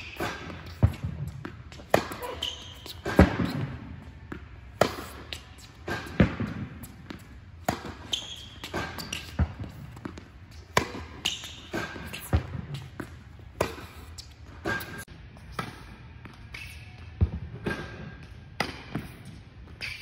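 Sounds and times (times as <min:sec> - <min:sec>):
tennis racket hitting balls: 0:00.0 - 0:15.8, 0:18.6 - 0:19.2
balls bouncing on hard court: 0:00.0 - 0:20.0.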